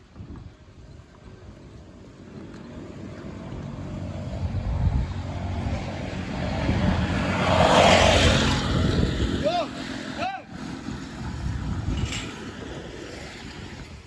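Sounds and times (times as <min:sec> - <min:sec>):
vehicle engine approaching: 0:01.1 - 0:14.0.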